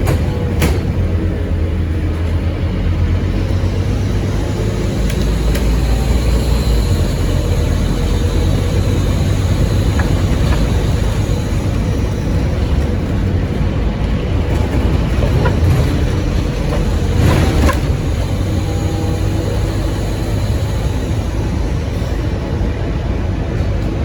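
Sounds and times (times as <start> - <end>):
bus diesel engine rumble: 0.0 - 24.0
road noise: 0.0 - 24.0.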